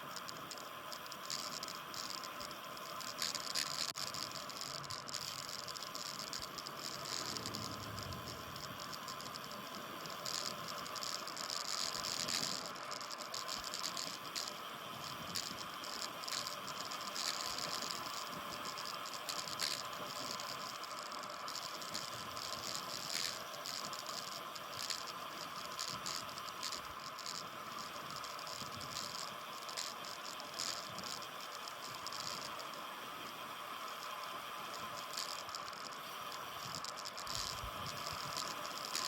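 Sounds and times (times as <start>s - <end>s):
bicycle rattles and clicks: 0.0s - 32.6s, 34.7s - 39.0s
bicycle rolling hiss: 0.0s - 39.0s.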